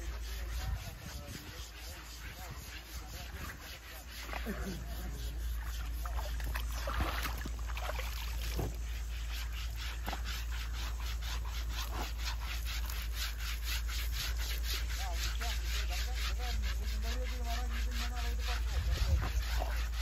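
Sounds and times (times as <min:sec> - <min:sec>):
scrubbing wet elephant hide: 0:00.0 - 0:20.0.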